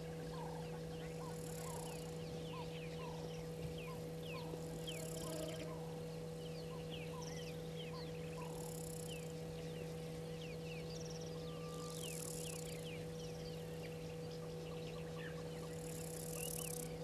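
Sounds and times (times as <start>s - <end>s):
steady low hum: 0.0s - 17.0s
wild birds chirping: 0.0s - 17.0s.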